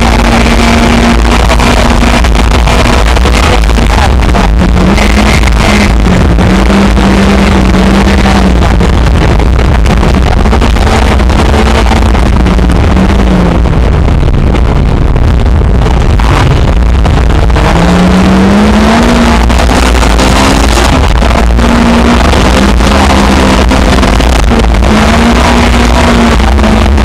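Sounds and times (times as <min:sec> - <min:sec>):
rally car engine revving: 0:00.0 - 0:27.0
road noise: 0:00.0 - 0:27.0.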